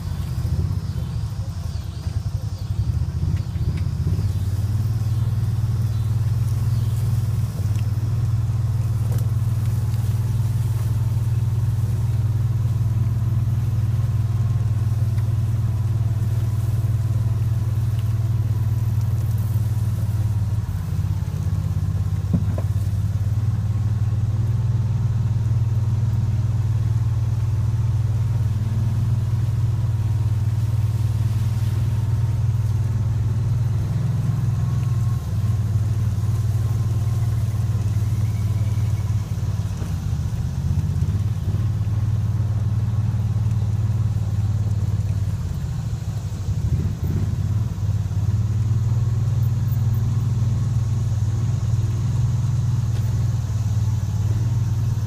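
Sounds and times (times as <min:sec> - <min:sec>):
vehicle engine drone: 0:00.0 - 0:55.0.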